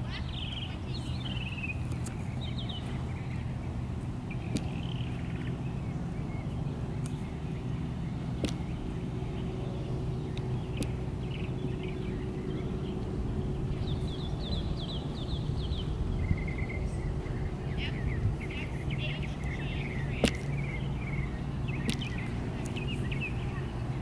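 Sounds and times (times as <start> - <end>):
bird chirping: 0.0 - 24.0
faint hum: 0.0 - 24.0.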